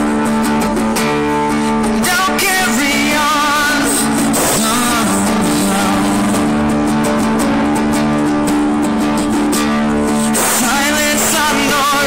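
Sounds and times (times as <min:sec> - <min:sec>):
live band playing: 0:00.0 - 0:12.0
person singing: 0:01.2 - 0:08.6, 0:09.7 - 0:12.0.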